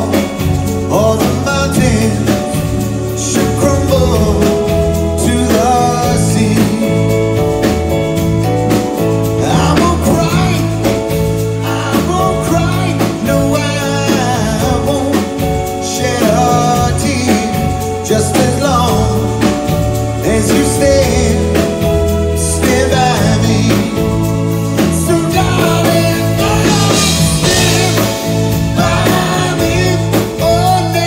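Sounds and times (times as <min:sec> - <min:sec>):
male vocal group singing: 0:00.0 - 0:07.6, 0:09.4 - 0:31.0
instrumental backing with bass and beat: 0:00.0 - 0:31.0.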